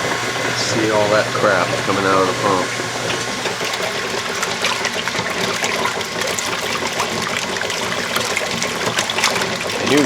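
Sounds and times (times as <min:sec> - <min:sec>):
drain pump humming: 0:00.0 - 0:10.0
water gushing from hose: 0:00.0 - 0:10.0.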